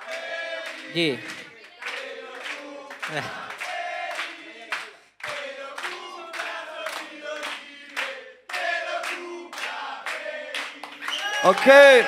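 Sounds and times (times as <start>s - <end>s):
audience clapping in rhythm: 0.0s - 12.0s
crowd chanting in unison: 0.0s - 12.0s.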